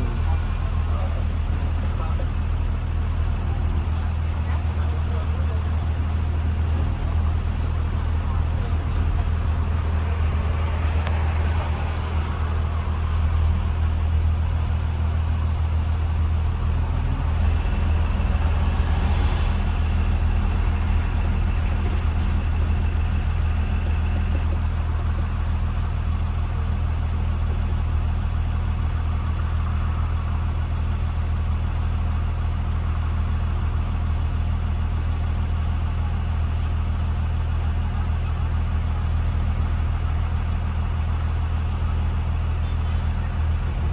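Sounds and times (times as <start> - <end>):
bus engine drone with road noise: 0.0 - 43.9.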